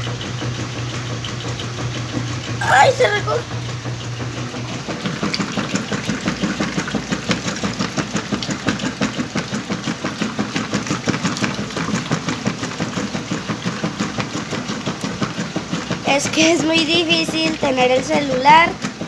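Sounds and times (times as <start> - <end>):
washing machine churning: 0.0 - 19.0.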